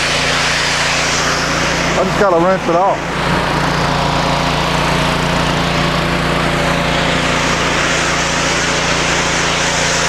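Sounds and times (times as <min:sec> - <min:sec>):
pressure washer engine running: 0:00.0 - 0:10.0
water spray hissing on concrete: 0:00.0 - 0:10.0.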